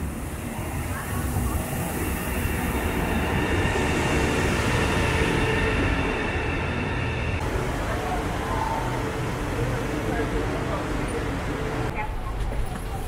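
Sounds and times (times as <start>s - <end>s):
train carriages rumbling past: 0.0s - 13.0s.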